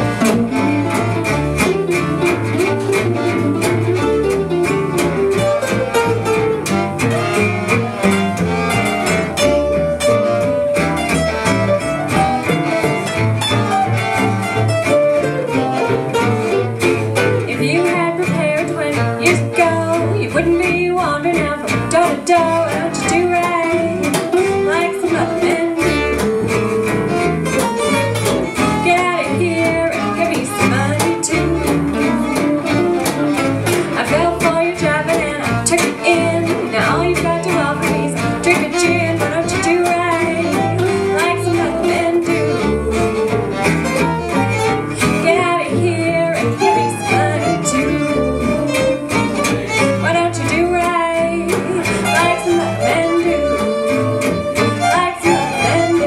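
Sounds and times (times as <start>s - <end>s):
bass: 0.0s - 56.0s
strummed guitar: 0.0s - 56.0s
violin lead: 0.0s - 56.0s.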